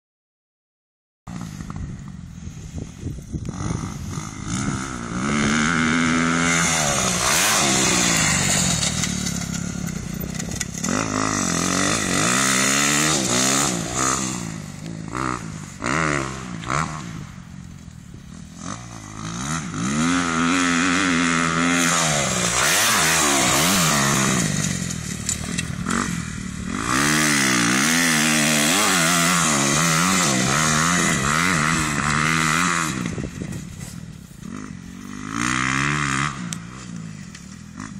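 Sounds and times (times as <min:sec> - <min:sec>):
dirt bike engine revving: 0:03.4 - 0:17.5, 0:18.2 - 0:37.9.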